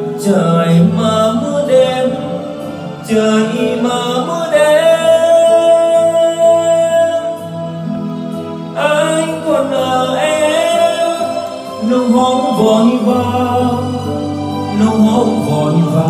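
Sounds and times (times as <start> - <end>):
karaoke backing music: 0.0 - 16.0.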